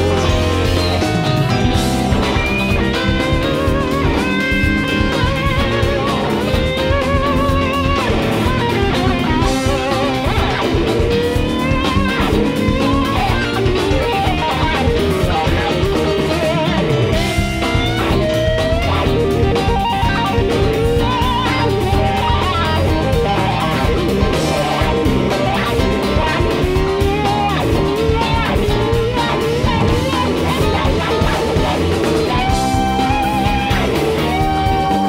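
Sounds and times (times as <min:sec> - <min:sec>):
electric guitar bent notes: 0:00.0 - 0:35.0
live rock band playing: 0:00.0 - 0:35.0.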